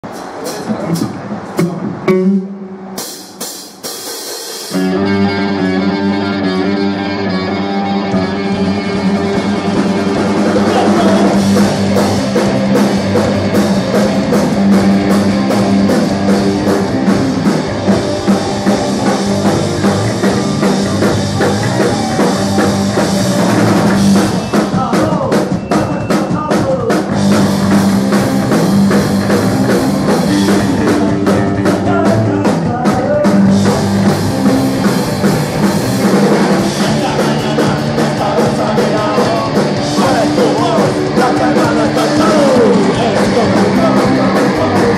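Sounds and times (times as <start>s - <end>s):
electric bass: 0.0s - 3.1s, 4.7s - 25.6s, 26.3s - 44.9s
drum kit fast beat: 0.0s - 5.1s, 8.6s - 44.9s
distorted electric guitars: 0.0s - 44.9s.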